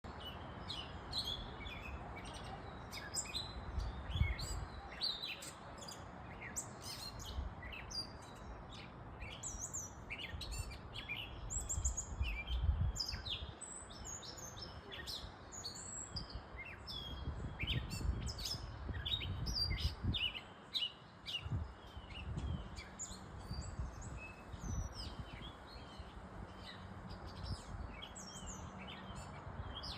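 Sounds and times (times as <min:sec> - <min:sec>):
birds chirping and singing: 0:00.1 - 0:29.9.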